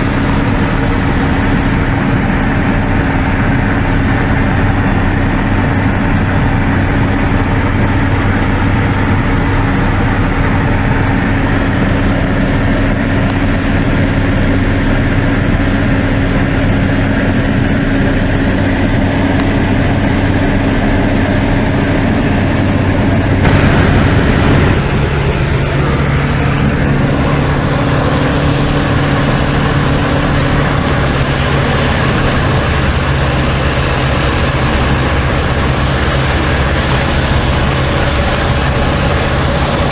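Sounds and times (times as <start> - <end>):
aircraft engine droning in cabin: 0.0 - 39.9.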